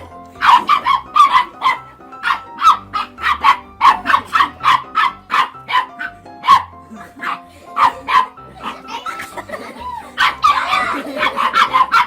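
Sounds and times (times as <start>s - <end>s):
music playing: 0.0s - 12.0s
dog barking rapidly: 0.4s - 9.3s, 10.2s - 12.0s.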